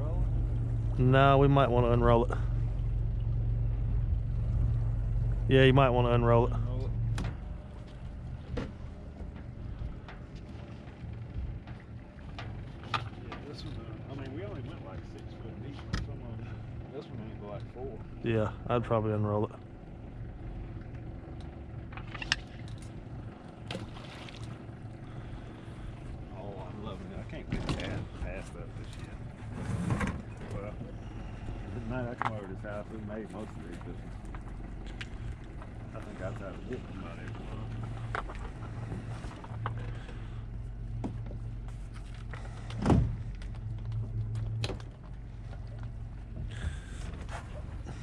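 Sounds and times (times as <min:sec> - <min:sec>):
boat motor running: 0:00.0 - 0:48.0.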